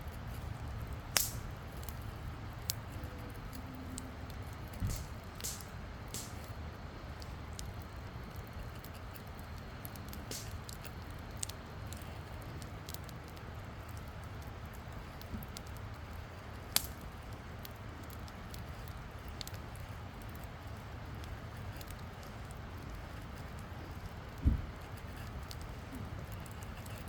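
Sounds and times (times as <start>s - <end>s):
burning wood popping: 0.0s - 27.0s
campfire crackling: 0.0s - 27.0s.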